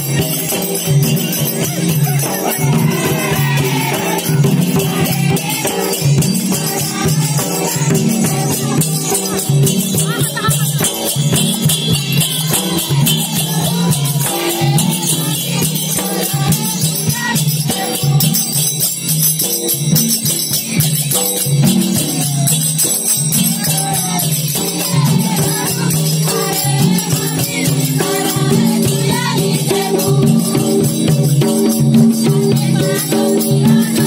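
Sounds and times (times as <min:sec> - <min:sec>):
hand-beaten barrel drums: 0:00.0 - 0:34.0
jingling metal percussion: 0:00.0 - 0:34.0.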